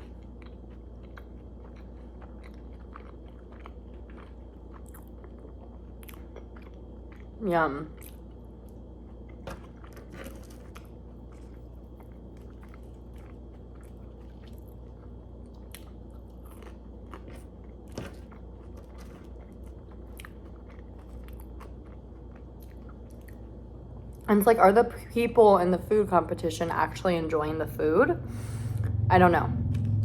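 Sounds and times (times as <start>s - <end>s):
person chewing food: 0.0s - 24.3s
steady low hum: 0.0s - 30.0s.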